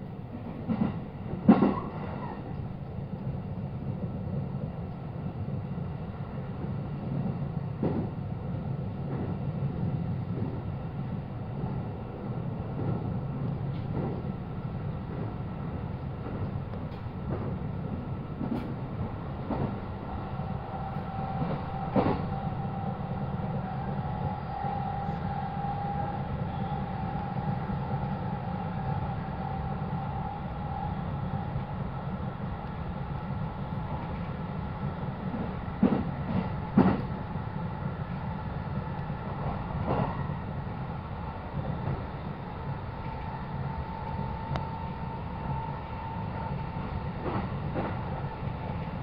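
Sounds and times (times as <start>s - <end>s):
train rumbling from inside: 0.0s - 49.0s.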